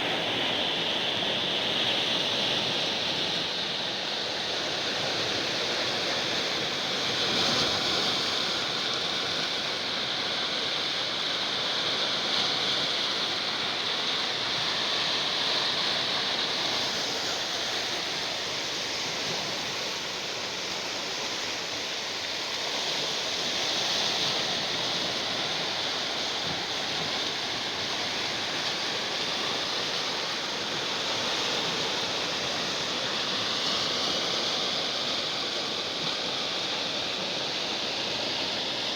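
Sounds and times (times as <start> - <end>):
sea waves washing ashore: 0.0 - 38.9.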